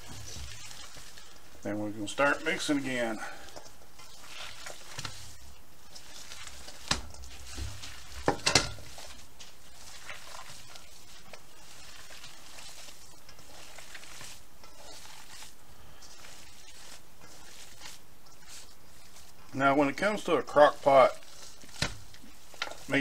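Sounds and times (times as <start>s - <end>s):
hands mixing meat in metal bowl: 0.0s - 23.0s.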